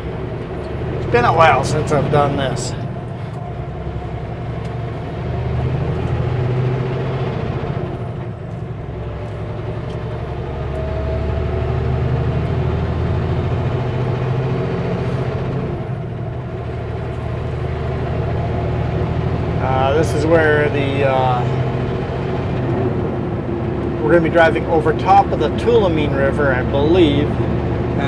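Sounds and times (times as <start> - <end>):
truck diesel engine pulling: 0.0 - 28.0.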